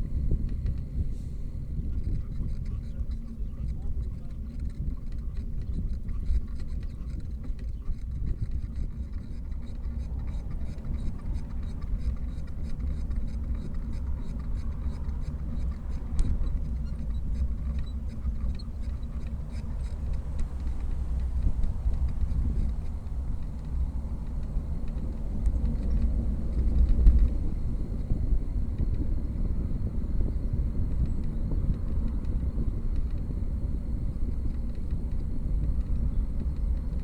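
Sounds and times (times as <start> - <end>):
wind and road noise rumble: 0.0 - 37.0.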